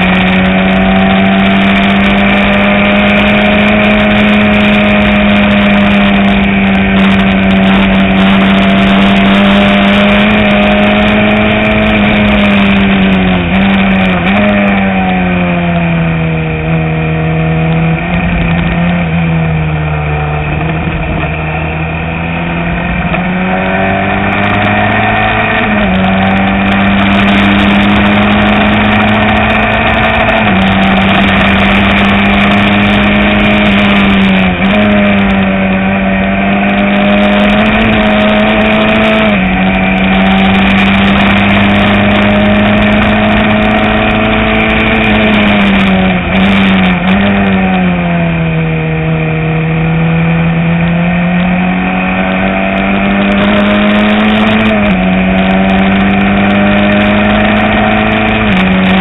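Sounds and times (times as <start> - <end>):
race car engine at high revs: 0.0 - 59.0.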